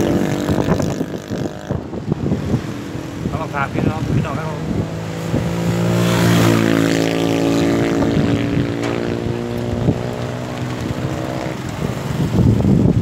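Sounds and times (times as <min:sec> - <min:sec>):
rushing wind-like noise: 0:00.0 - 0:13.0.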